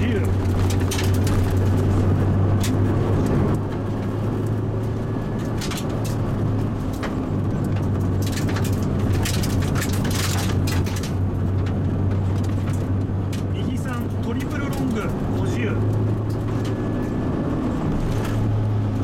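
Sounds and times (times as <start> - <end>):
light clicks and rattles: 0.0 - 16.8
car engine running: 0.0 - 19.0
tyre and road noise: 0.0 - 19.0.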